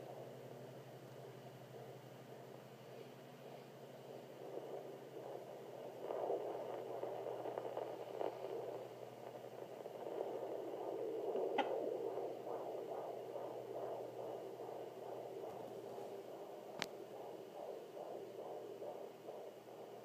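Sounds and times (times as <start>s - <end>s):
fetal heartbeat whooshing pulse: 0.0s - 20.0s.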